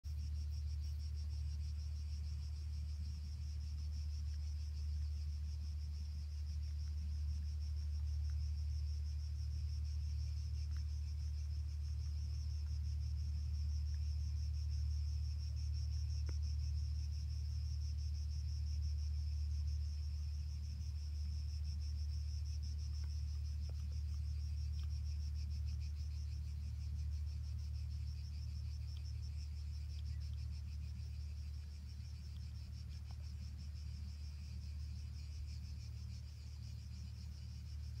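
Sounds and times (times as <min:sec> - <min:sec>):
insects chirring: 0:00.1 - 0:38.0.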